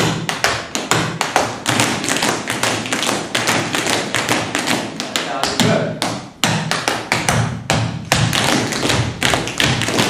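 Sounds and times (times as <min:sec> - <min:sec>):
dance shoes tapping and stamping: 0:00.0 - 0:10.0.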